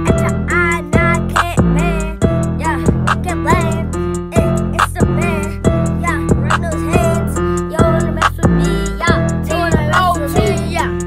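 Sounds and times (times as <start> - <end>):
deep bass note: 0.0 - 10.6
hip-hop beat: 0.0 - 11.0.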